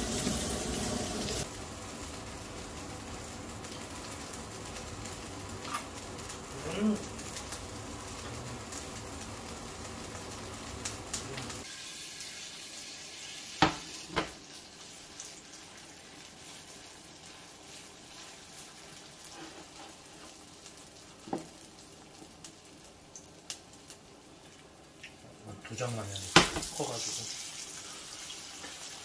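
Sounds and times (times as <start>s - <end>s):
batter sizzling in oil: 0.0s - 29.0s.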